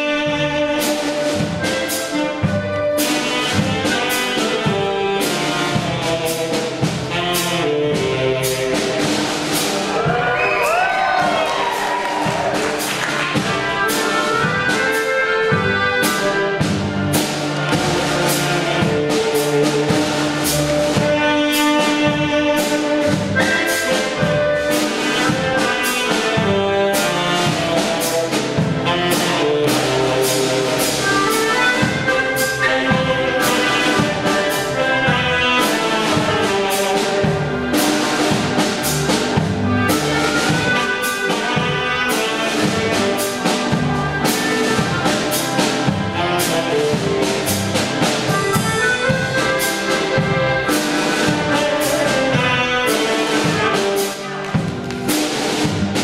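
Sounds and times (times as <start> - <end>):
polka band horns: 0.0 - 56.0
steady drum beat: 0.0 - 56.0.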